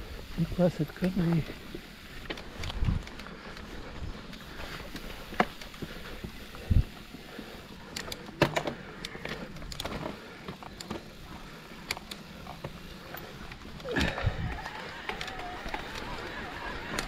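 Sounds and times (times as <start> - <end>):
mountain bike clattering: 0.2 - 17.0.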